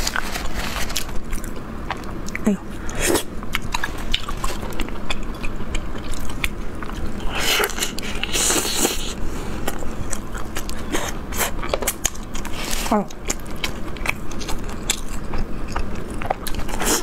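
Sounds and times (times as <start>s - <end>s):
chewing crisp flatbread: 0.0s - 2.5s, 3.2s - 17.0s.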